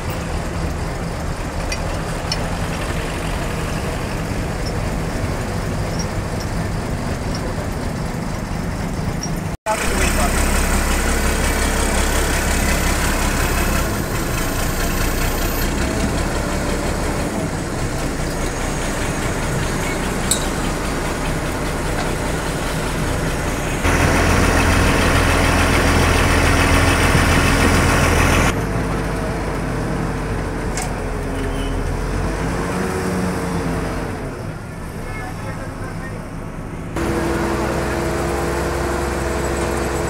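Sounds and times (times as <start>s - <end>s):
crane engine running: 0.0s - 40.0s.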